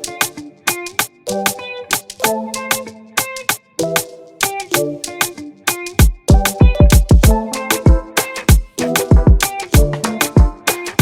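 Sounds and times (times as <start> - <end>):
afrobeat music with kick drums: 0.0 - 11.0.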